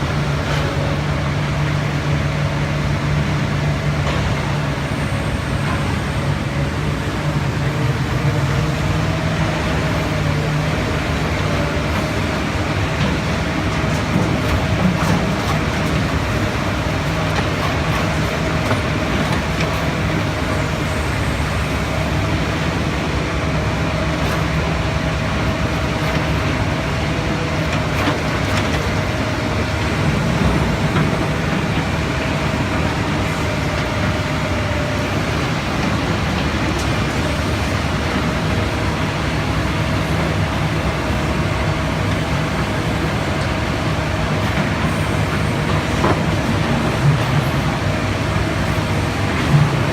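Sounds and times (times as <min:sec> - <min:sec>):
excavator diesel engine rumble: 0:00.0 - 0:49.9.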